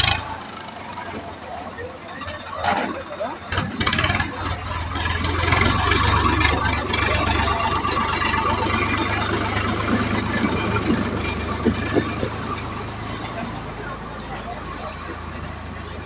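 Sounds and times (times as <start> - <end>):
engine running with rattle: 0.0 - 16.0.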